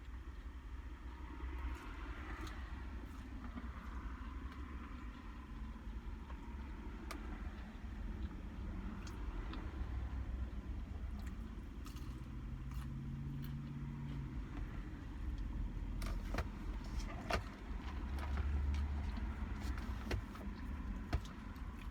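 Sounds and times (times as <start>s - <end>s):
low rumble inside a car: 0.0s - 21.9s.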